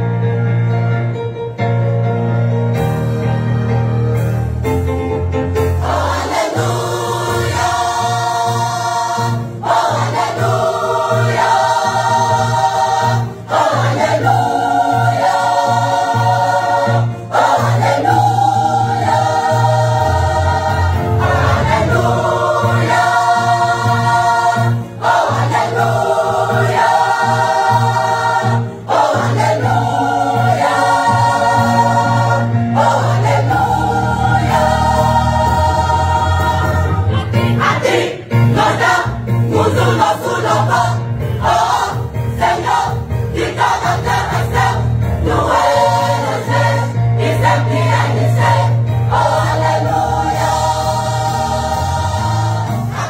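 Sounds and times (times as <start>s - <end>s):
men's choir singing a hymn: 5.8s - 53.0s.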